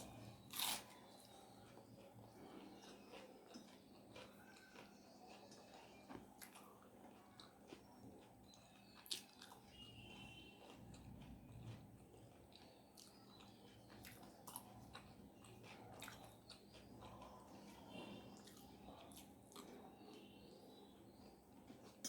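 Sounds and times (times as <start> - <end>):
close-up chewing: 0.0 - 22.0.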